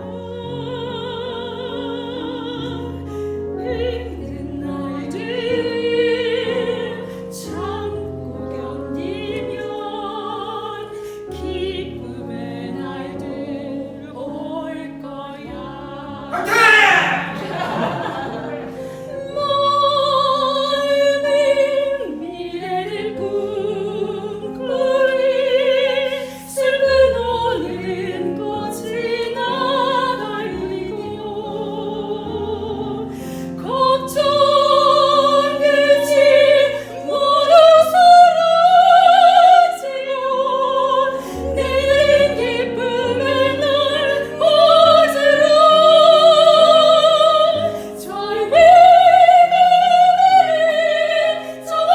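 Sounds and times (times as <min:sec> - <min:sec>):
soprano singing operatic aria: 0:00.0 - 0:51.9.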